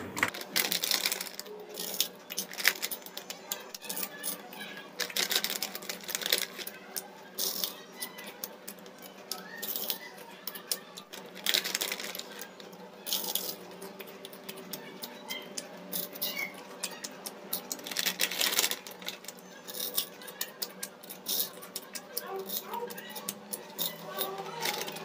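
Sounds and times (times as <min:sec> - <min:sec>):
corn puffs crunching: 0:00.3 - 0:25.0
plastic snack packet crinkling: 0:00.3 - 0:25.0.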